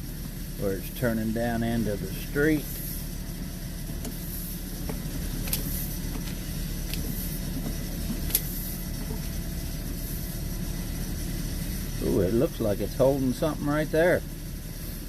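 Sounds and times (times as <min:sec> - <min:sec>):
motor droning: 0:00.0 - 0:15.0.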